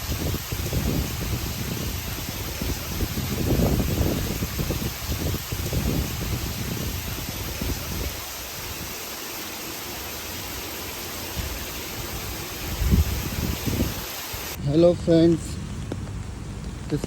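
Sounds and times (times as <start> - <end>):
heavy rain hissing: 0.0 - 14.9.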